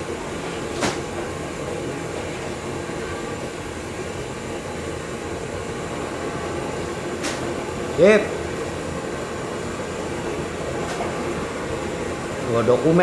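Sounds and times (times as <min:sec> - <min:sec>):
plucking machine humming: 0:00.0 - 0:13.0.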